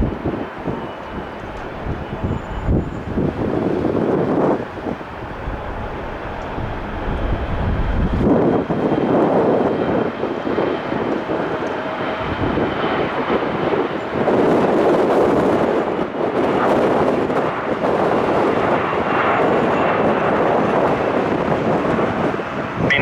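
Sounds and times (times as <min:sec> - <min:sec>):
jet engine rushing noise: 0:00.0 - 0:23.0.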